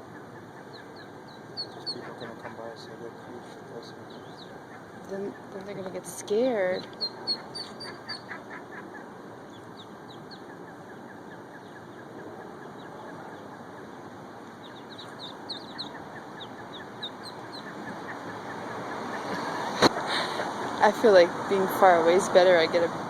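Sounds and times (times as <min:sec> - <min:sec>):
ducklings peeping: 0:00.0 - 0:22.9
steady background noise: 0:00.0 - 0:23.0.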